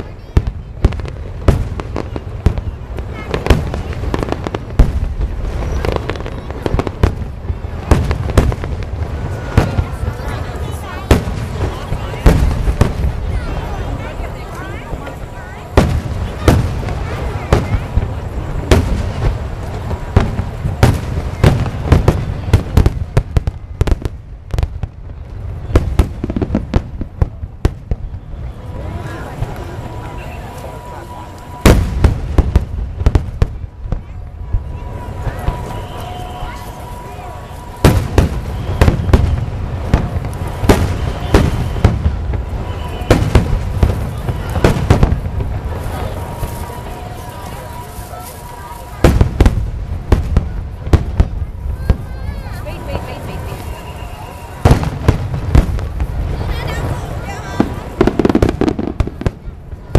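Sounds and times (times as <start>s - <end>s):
small firework pops: 0.0s - 13.6s, 14.4s - 37.0s, 37.8s - 52.7s, 53.3s - 59.9s
fireworks bursting with loud bangs: 0.0s - 59.9s.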